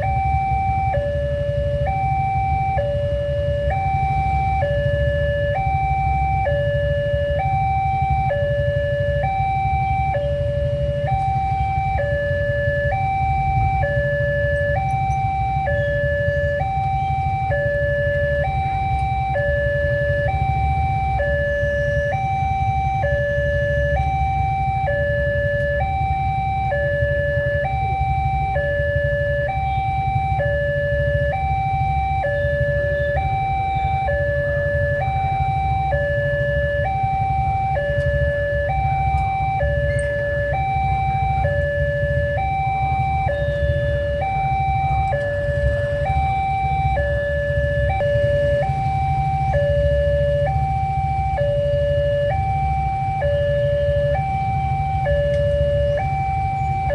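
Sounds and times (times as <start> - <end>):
two-tone level crossing alarm: 0.0 - 56.9.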